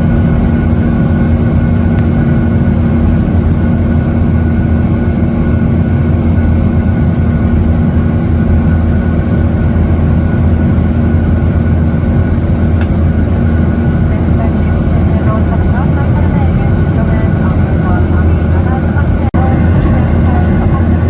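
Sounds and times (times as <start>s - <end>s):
airliner engines droning in cabin: 0.0s - 21.0s.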